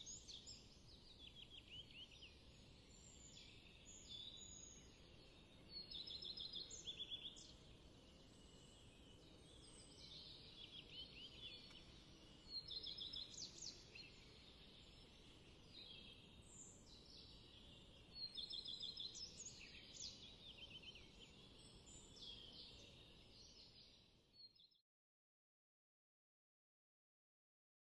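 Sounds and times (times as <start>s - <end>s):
faint outdoor background noise: 0.0s - 24.7s
songbird singing: 0.0s - 24.8s.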